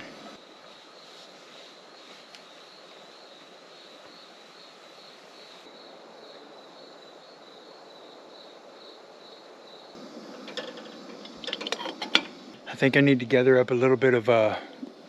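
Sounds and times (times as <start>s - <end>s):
low outdoor hiss: 0.0s - 15.0s.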